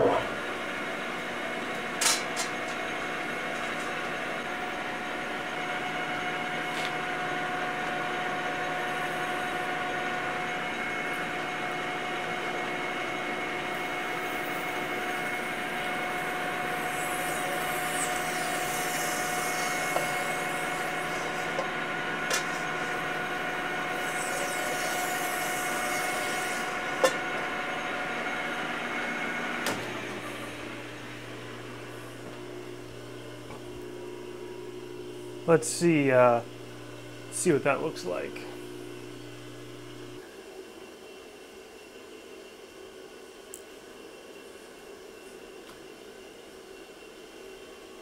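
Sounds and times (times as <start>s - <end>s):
lathe machine whine: 0.0s - 41.1s.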